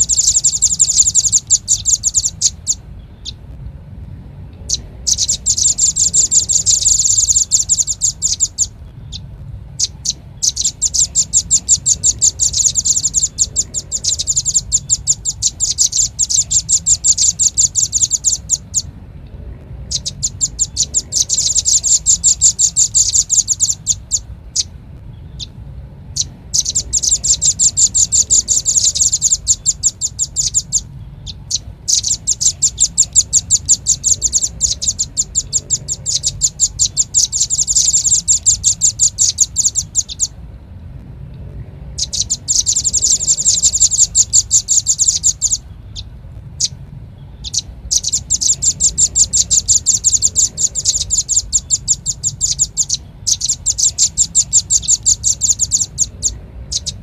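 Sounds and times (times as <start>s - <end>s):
nuthatch trilling calls: 0.0s - 3.6s, 4.6s - 19.0s, 19.8s - 40.4s, 41.9s - 57.0s.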